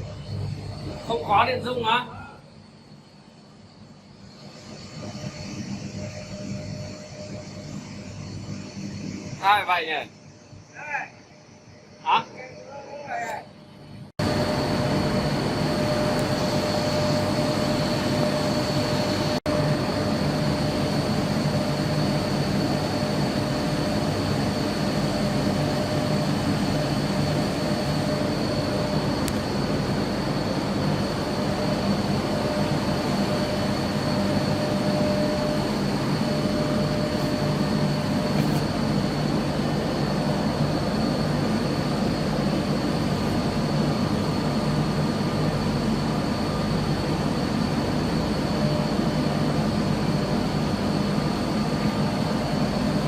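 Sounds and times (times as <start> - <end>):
high whine: 0.0 - 53.0
machine hum and rumble: 0.0 - 53.0.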